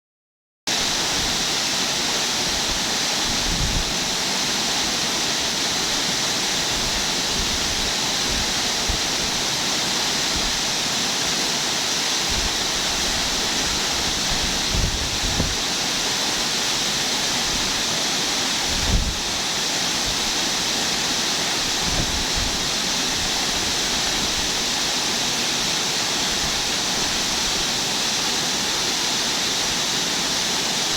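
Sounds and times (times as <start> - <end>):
waterfall rushing and splashing: 0.7 - 30.9.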